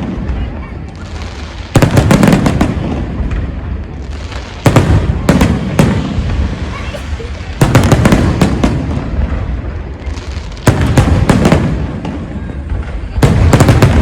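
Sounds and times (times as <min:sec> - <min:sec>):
fireworks sharp bangs: 0:00.0 - 0:14.0
low rumbling echo: 0:00.0 - 0:14.0.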